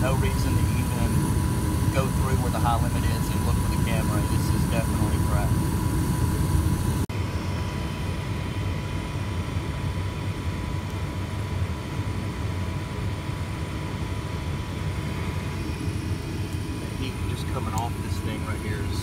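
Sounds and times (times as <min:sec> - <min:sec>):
gas furnace running: 0:00.0 - 0:19.0.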